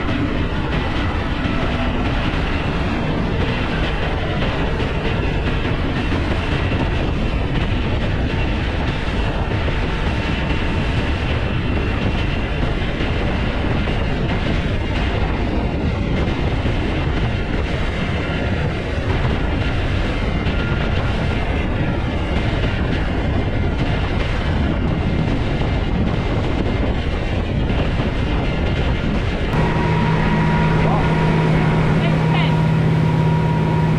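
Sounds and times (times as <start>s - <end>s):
motorboat engine running: 0.0s - 33.9s.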